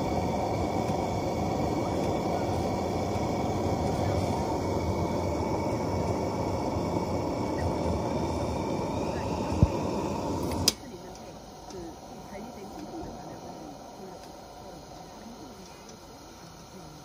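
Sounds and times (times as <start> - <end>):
gas stove burning: 0.0 - 17.0
pressure lantern roaring hiss: 0.0 - 17.0.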